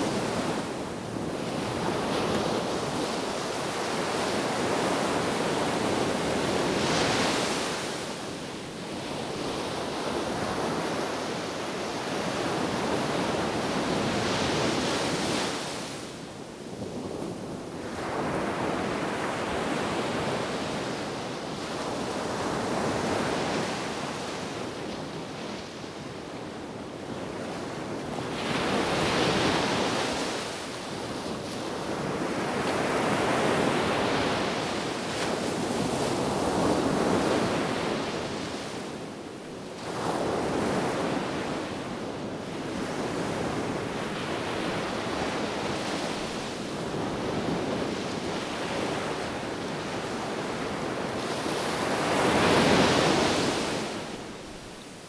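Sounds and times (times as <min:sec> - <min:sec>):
waves breaking on beach: 0:00.0 - 0:16.3, 0:26.6 - 0:55.0.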